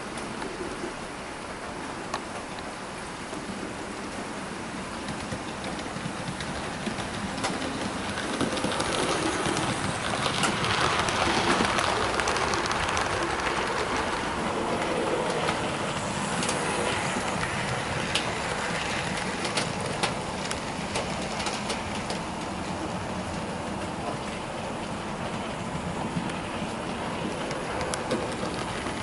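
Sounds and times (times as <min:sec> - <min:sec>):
wheels clicking over rail joints: 0:00.0 - 0:29.0.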